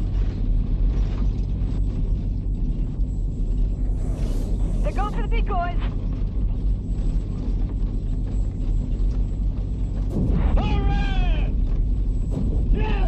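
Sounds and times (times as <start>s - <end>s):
aircraft deep rumble: 0.0s - 13.0s.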